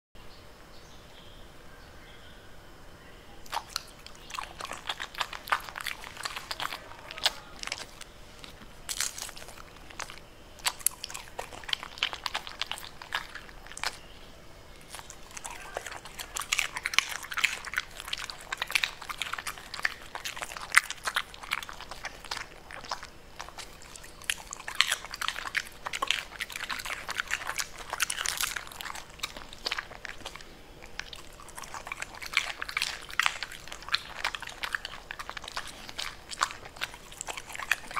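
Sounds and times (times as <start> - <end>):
dog crunching cabbage leaves: 3.4 - 37.9.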